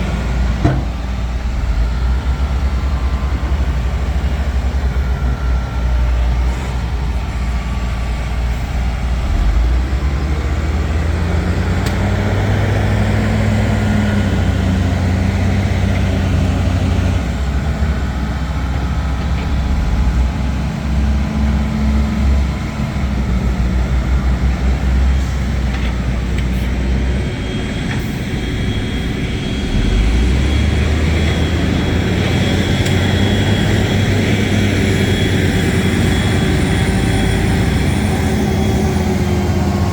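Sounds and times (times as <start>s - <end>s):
diesel engine working under load: 0.0s - 39.9s.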